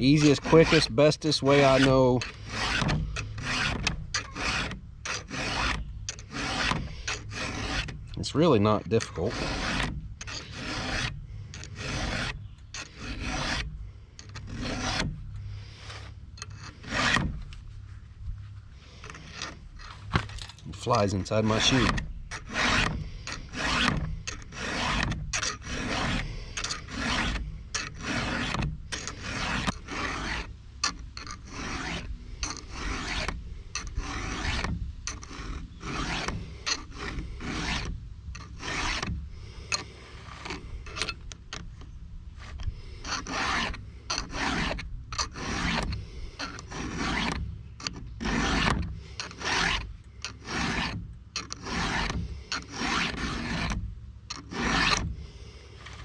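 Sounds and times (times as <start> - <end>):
file rasping on chainsaw chain: 0.0 - 17.5, 18.9 - 56.0.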